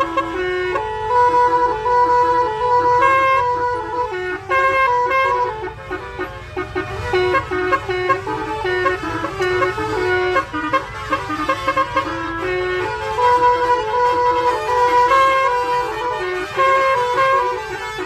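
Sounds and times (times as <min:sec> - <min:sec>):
musical horn melody: 0:00.0 - 0:18.0.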